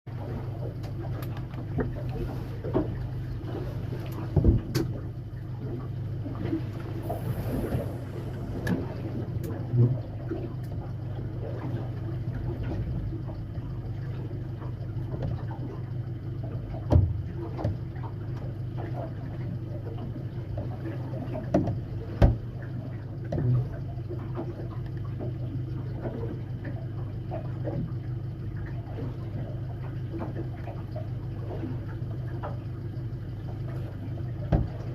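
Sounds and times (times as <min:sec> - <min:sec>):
boat motor idling: 0:00.1 - 0:34.9.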